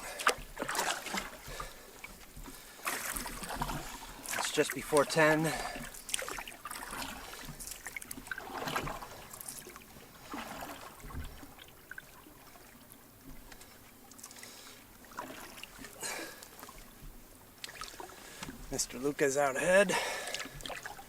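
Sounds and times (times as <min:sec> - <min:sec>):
faint river water: 0:00.0 - 0:21.0
paddle swishing in water: 0:00.0 - 0:21.0.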